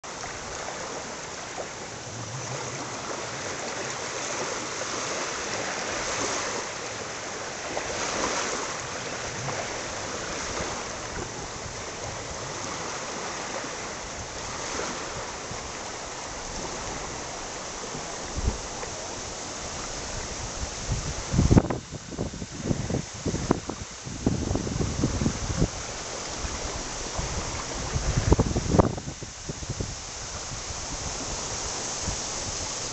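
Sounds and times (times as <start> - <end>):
seawater washing around rocks: 0.0 - 32.9.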